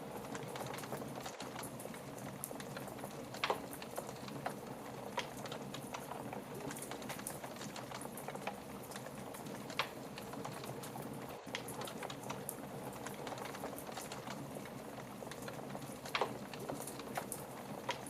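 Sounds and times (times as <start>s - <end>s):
fire crackling: 0.0s - 18.0s
wood fire hissing: 0.0s - 18.0s
wood fire popping: 0.0s - 18.0s.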